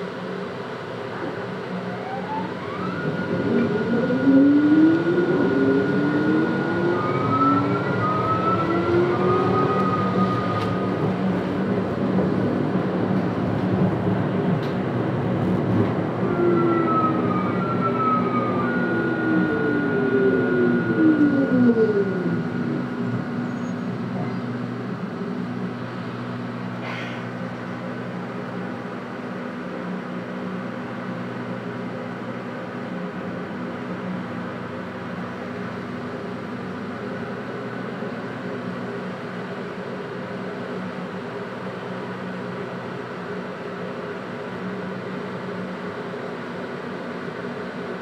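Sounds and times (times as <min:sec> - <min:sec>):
tram motor whine: 0:00.0 - 0:48.0.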